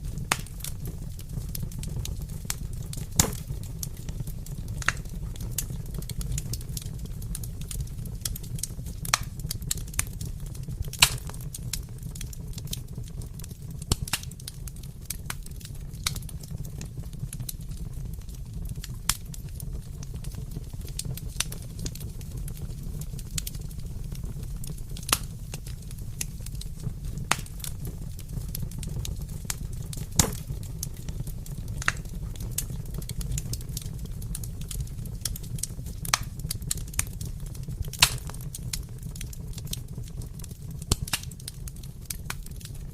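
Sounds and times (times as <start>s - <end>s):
low rumble of flames: 0.0s - 42.9s
wood fire crackling: 0.0s - 42.9s
sharp pops and snaps: 0.2s - 4.2s, 4.8s - 6.9s, 7.6s - 10.2s, 10.8s - 13.1s, 13.8s - 15.4s, 20.3s - 42.7s.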